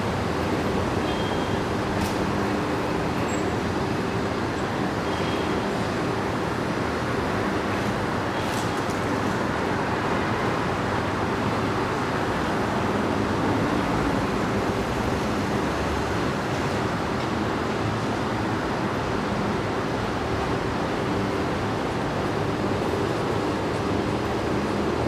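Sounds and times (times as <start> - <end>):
cars and buses passing: 0.0 - 25.0.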